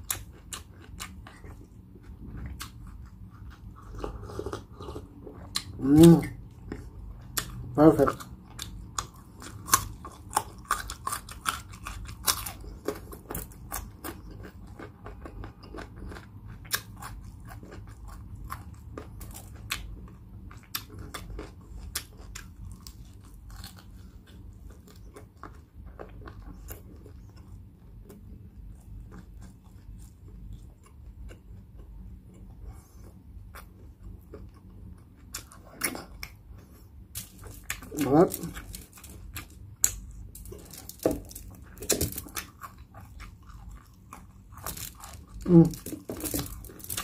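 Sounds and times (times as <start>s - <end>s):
person chewing crunchy food: 0.0s - 47.0s.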